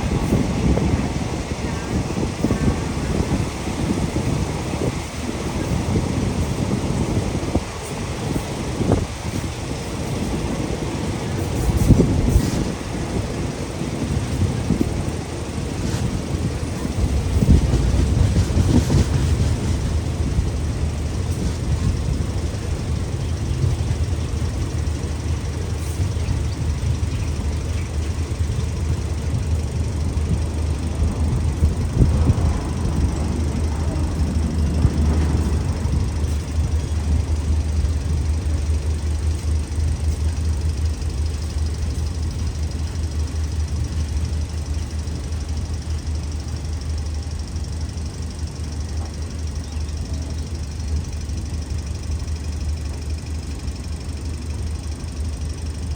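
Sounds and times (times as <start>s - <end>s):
locomotive engine humming: 0.0s - 55.9s.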